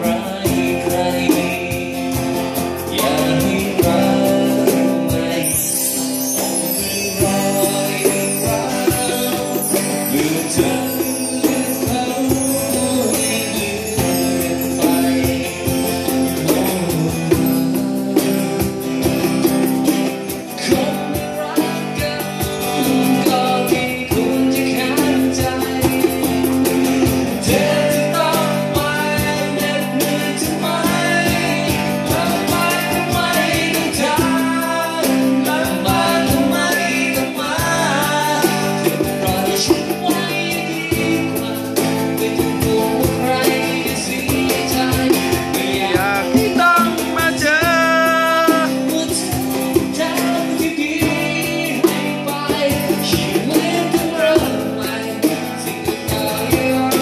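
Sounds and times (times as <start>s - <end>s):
rock band music: 0.0s - 57.0s.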